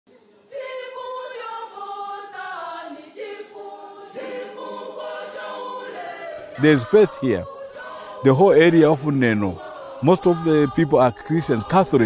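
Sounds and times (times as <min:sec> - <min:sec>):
choir singing: 0:00.1 - 0:12.0.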